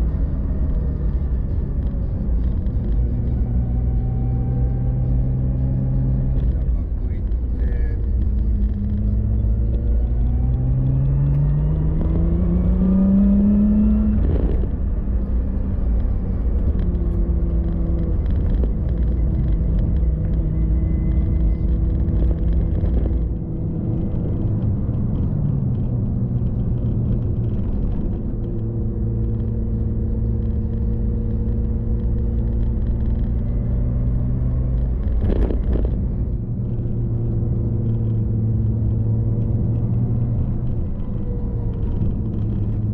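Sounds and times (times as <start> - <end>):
car engine accelerating: 0.0 - 42.9
road rumble: 0.0 - 42.9.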